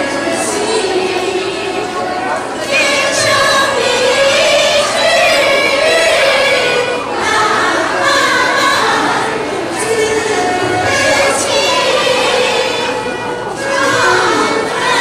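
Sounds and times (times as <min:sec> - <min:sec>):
women's choir singing: 0:00.0 - 0:15.0.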